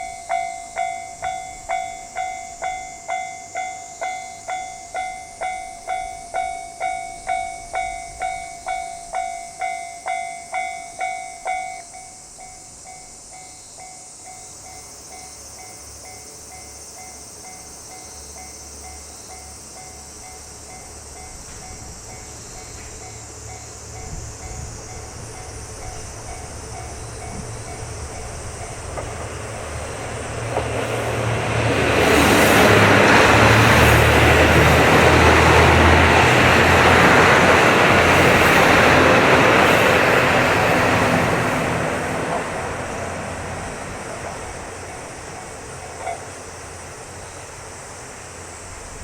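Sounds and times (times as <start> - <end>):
steady high hiss: 0.0 - 49.0
train rumble: 0.0 - 49.0.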